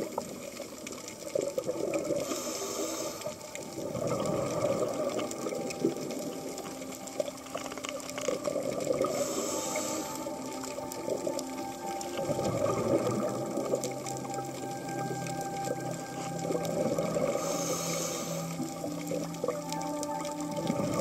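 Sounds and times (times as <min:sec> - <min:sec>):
faint clicks: 0:00.0 - 0:21.0
regulator bubbling underwater: 0:00.0 - 0:21.0.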